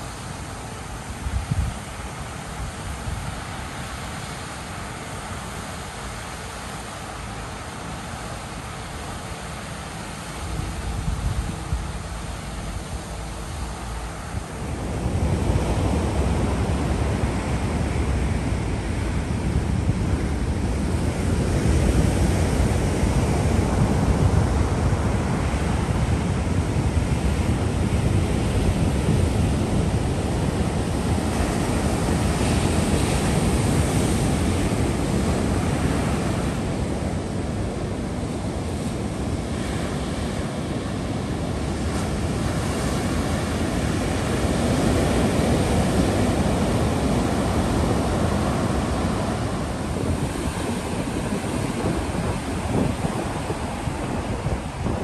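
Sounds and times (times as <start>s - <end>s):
ocean waves breaking: 0.0s - 55.0s
wind noise on microphone: 0.0s - 55.0s.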